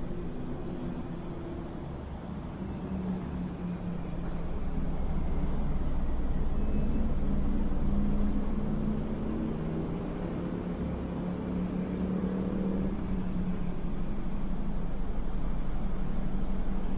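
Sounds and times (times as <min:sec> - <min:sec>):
vehicle rumble: 0:00.0 - 0:16.9.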